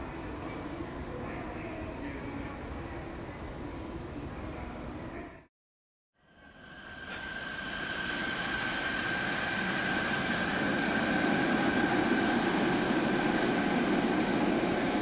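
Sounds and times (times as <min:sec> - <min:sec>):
subway train rumble: 0:00.0 - 0:05.4, 0:06.2 - 0:15.0.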